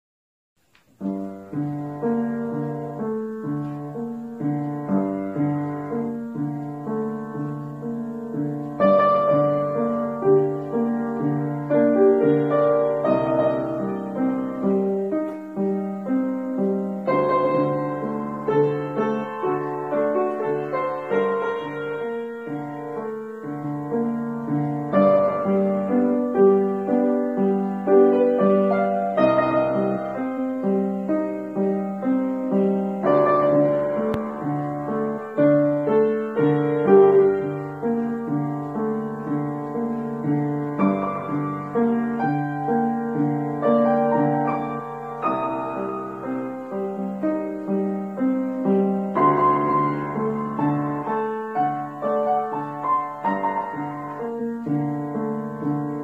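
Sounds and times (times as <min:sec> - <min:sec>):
slow gentle solo piano: 0:00.6 - 0:56.0.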